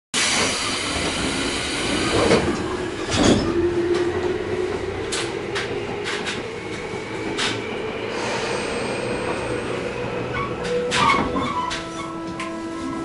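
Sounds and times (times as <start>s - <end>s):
train running noise: 0.2s - 13.0s.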